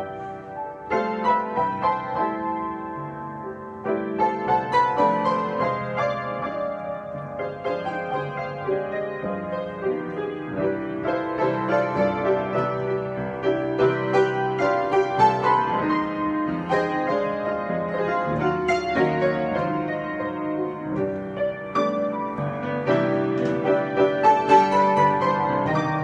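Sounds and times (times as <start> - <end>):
solo piano improvisation: 0.0 - 26.0.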